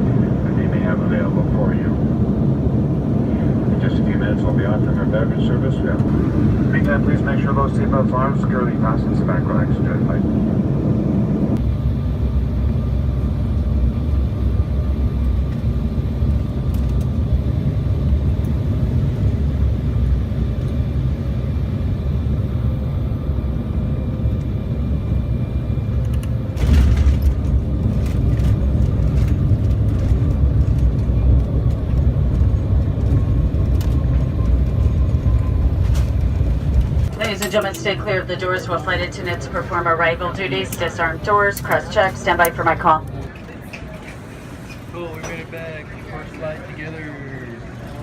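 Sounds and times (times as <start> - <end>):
jet airliner cabin rumble: 0.0 - 48.0.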